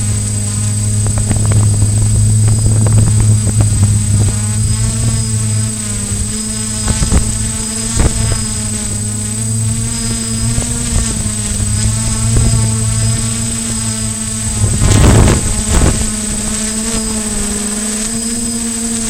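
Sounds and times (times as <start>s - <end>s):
wind buffeting microphone: 0.0s - 18.0s
drone propellers buzzing: 0.0s - 19.0s.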